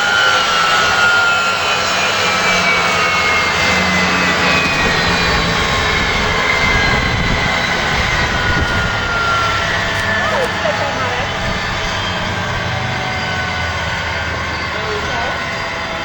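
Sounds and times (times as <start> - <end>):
jet engines rushing and whining: 0.0 - 16.0.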